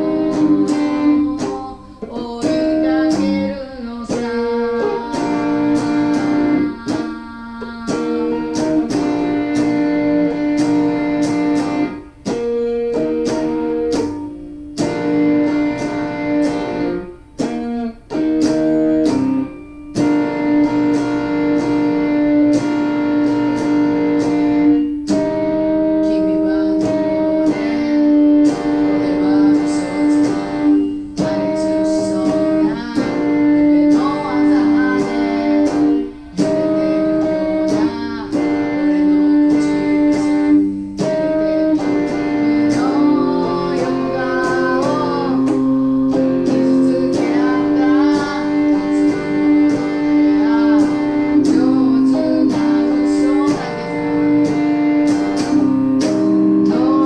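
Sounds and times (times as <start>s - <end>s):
strummed guitar chords: 0.0s - 57.0s
woman singing: 0.0s - 57.0s.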